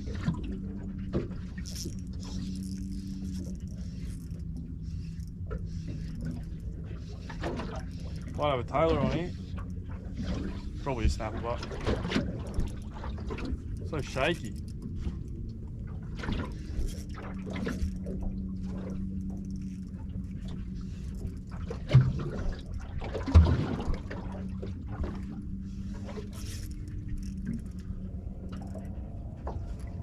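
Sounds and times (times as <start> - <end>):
motor humming: 0.0 - 23.4, 24.0 - 30.0
water lapping against a kayak: 0.0 - 30.0.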